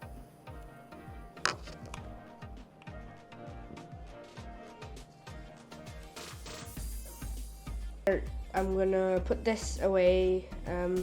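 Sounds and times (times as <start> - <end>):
electronic beat music: 0.0 - 11.0.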